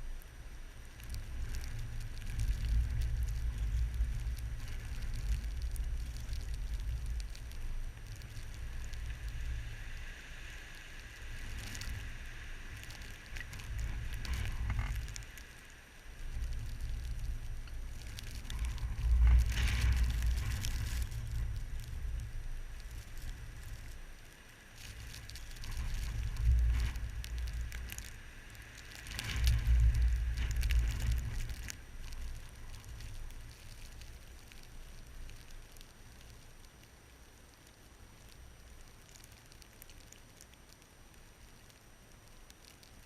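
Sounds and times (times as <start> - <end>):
blizzard wind gusting: 0.0 - 36.6
fine crackling and ticking: 0.0 - 43.0.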